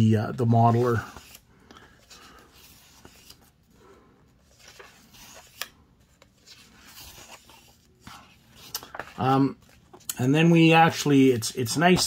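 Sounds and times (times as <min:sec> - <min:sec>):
book pages turning: 0:00.4 - 0:12.0.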